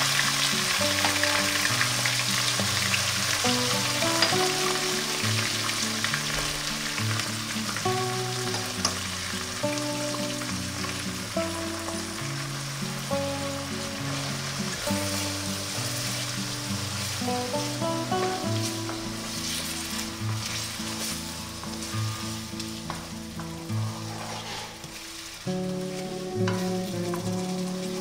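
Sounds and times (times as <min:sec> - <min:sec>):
onions sizzling in oil: 0:00.0 - 0:28.0
soft background music: 0:00.0 - 0:28.0.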